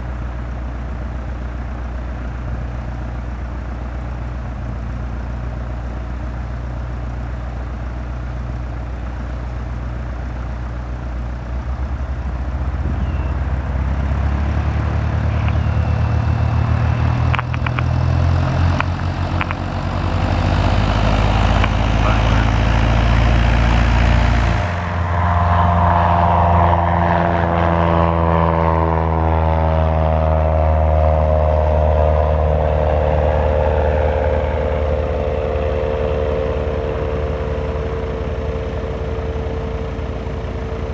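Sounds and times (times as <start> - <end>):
propeller plane engine at full power: 0.0 - 40.9.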